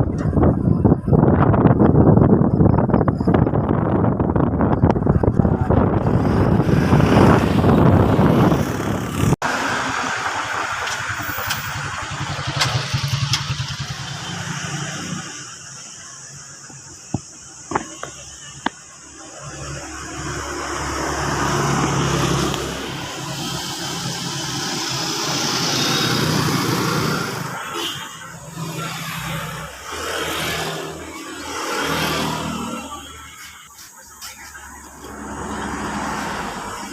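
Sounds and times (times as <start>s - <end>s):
road and wind noise: 0.0s - 36.9s.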